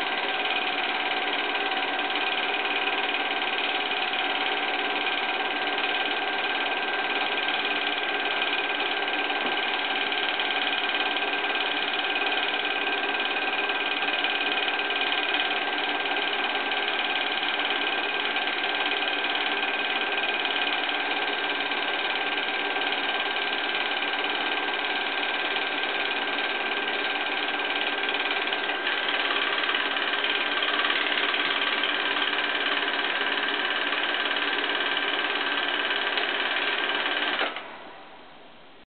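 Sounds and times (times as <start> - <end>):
film projector whirring and clattering: 0.0 - 37.9.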